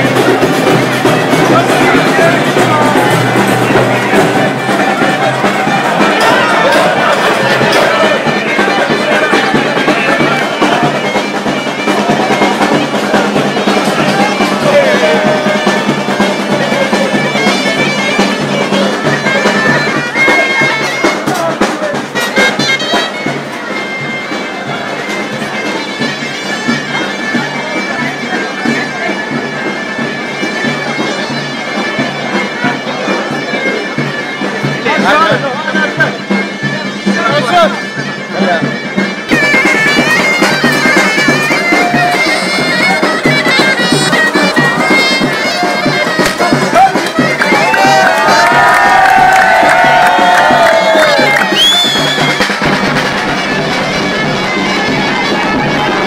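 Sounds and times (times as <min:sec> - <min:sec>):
crowd voices: 0:00.0 - 0:56.0
shrill reedy wind instrument: 0:00.0 - 0:56.0.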